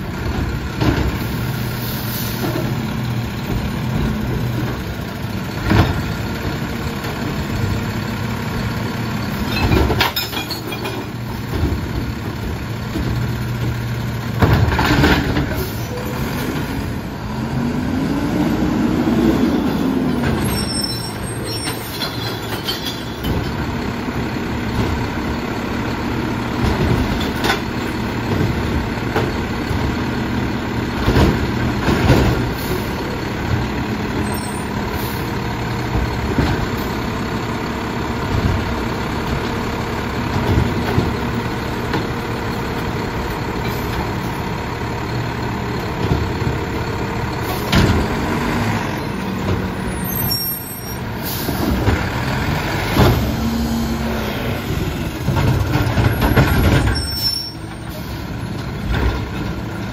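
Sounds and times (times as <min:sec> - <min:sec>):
garbage truck engine revving: 0:11.1 - 0:59.9.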